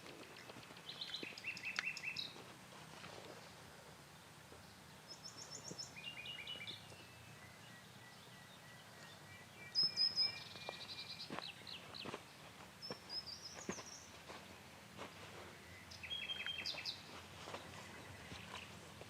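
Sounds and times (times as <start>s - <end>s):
birds singing: 0.2s - 2.5s, 4.4s - 19.0s.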